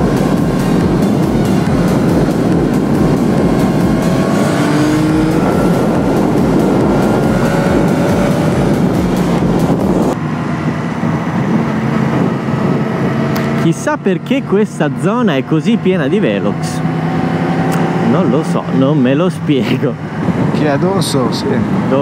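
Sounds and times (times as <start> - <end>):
wind rush on microphone: 0.0 - 15.0, 15.7 - 22.0
motorcycle engine accelerating: 0.0 - 20.6.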